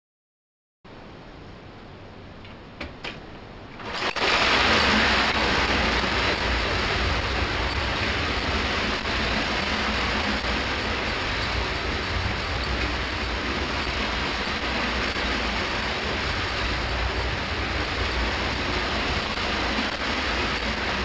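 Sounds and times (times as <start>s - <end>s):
clockwork toy trains clattering: 2.4s - 21.0s.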